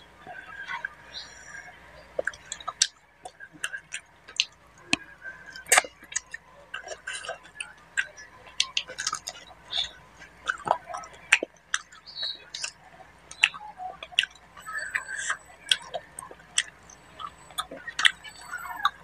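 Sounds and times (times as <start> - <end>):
close chewing with lip smacks: 0.4 - 19.0.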